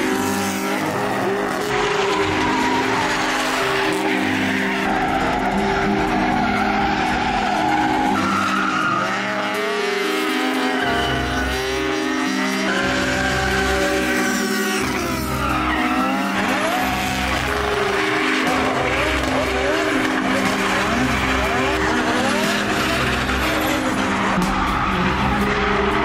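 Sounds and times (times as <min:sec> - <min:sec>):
background music: 0:00.0 - 0:26.0
car engines revving: 0:00.0 - 0:26.0
tyres squealing: 0:00.0 - 0:26.0.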